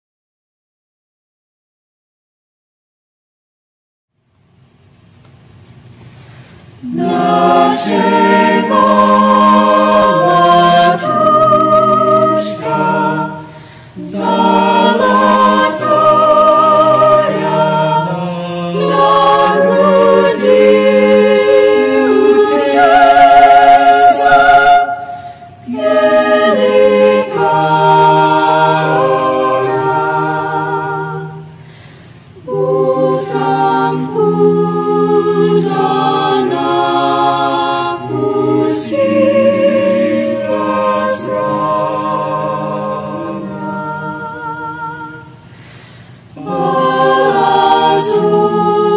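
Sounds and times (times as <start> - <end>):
choir singing a cappella: 6.8 - 48.9.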